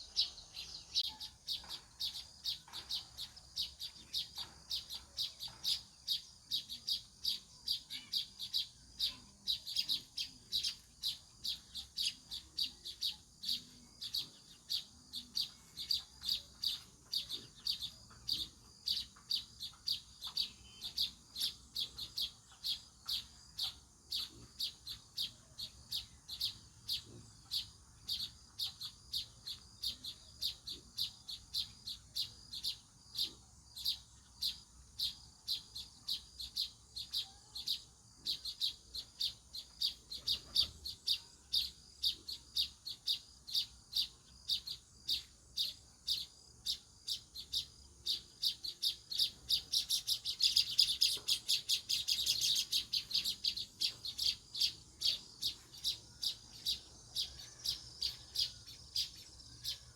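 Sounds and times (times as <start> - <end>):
sparrow chirping: 0.0 - 59.9.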